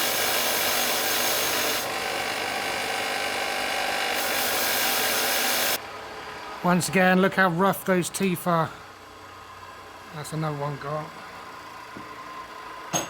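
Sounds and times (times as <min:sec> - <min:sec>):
workshop tool running: 0:00.0 - 0:09.0, 0:09.6 - 0:13.0.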